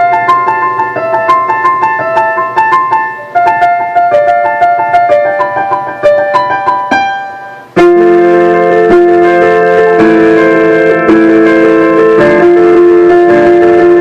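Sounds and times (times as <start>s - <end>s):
keyboard held chords: 0.0s - 14.0s
keyboard melody: 0.0s - 14.0s.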